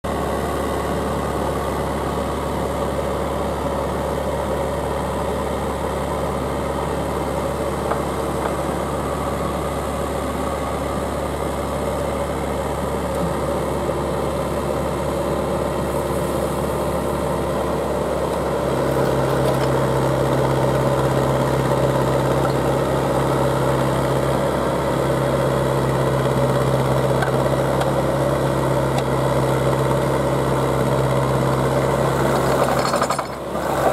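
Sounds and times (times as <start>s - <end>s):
drill rig engine running: 4.5s - 33.9s.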